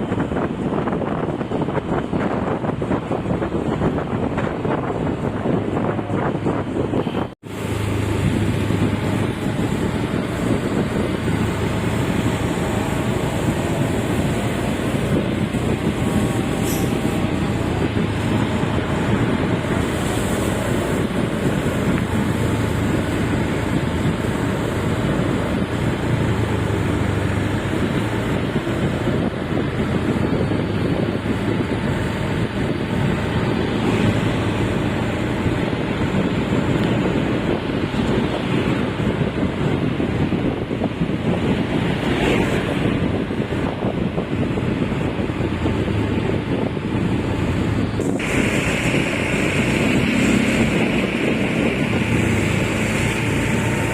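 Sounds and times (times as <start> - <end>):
road and wind noise: 0.0 - 53.9
truck engine running: 0.0 - 53.9.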